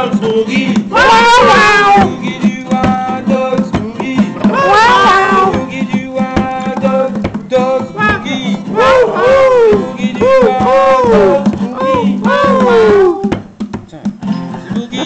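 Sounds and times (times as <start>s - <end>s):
acoustic guitar boogie rhythm: 0.0s - 15.0s
man singing: 0.0s - 15.0s.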